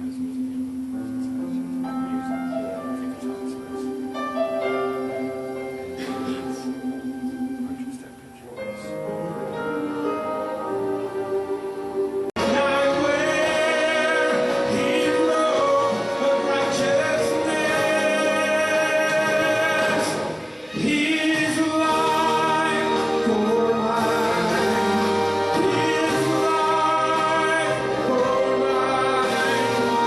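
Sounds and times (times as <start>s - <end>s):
gospel singing with instruments: 0.0s - 30.0s.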